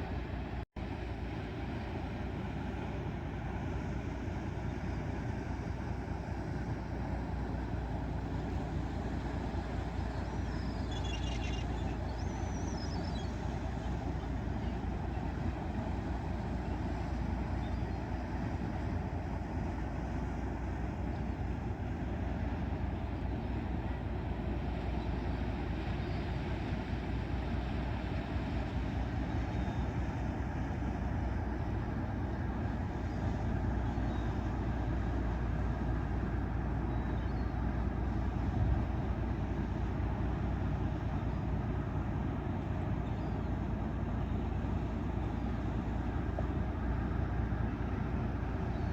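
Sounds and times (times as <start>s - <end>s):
ship engine drone: 0.0s - 48.9s.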